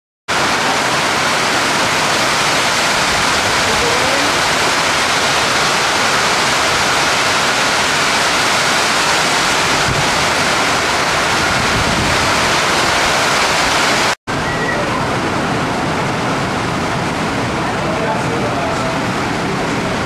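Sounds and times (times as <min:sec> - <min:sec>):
strong wind: 0:00.3 - 0:20.0
torrential rain: 0:00.3 - 0:20.0.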